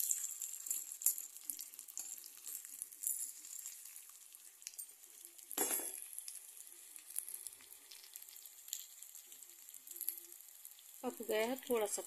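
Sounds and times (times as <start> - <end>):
vegetable sizzling in a pan: 0.0 - 12.0.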